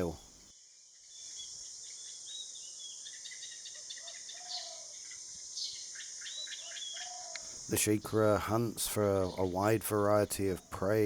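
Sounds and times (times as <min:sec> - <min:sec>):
high insect drone: 0:00.0 - 0:11.0
small birds chirping: 0:00.0 - 0:11.0.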